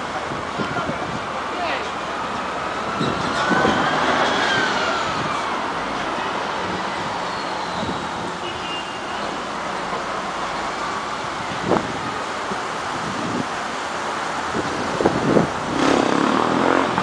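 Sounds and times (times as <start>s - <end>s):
bus engine whine passing: 0.0s - 17.0s
street traffic noise: 0.0s - 17.0s.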